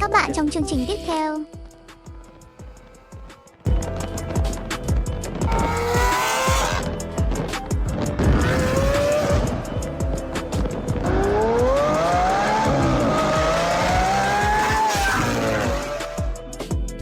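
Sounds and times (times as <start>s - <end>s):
car engine accelerating: 1.6s - 16.5s.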